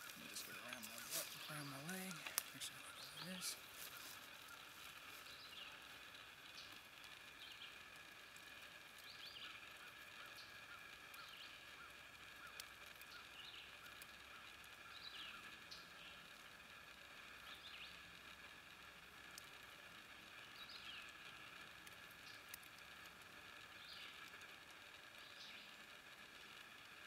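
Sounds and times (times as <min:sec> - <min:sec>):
faint high hum: 0:00.0 - 0:27.0.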